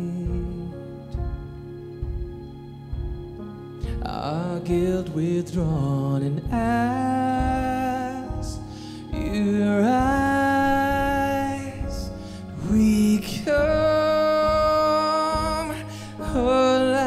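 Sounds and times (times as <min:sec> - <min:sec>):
man singing: 0:00.0 - 0:01.4, 0:03.8 - 0:17.0.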